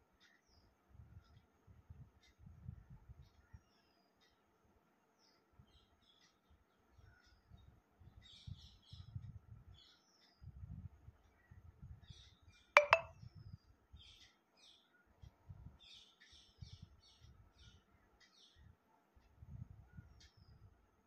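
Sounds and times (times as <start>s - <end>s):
small birds chirping: 0.1s - 1.6s, 3.2s - 18.9s, 19.9s - 20.8s.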